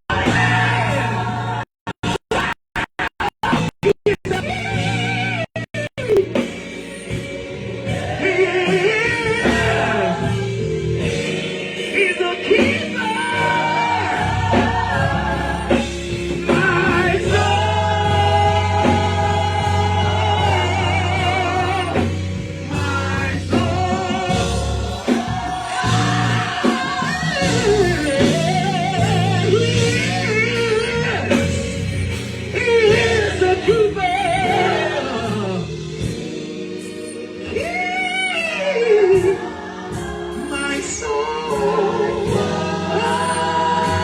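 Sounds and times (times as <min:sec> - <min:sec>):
gospel choir singing: 0:00.1 - 0:02.2, 0:06.4 - 0:44.0
live band playing: 0:00.1 - 0:44.0.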